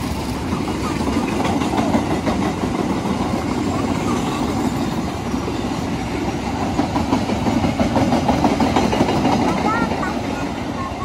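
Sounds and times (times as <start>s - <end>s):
train wheels running on rails: 0.0s - 11.0s.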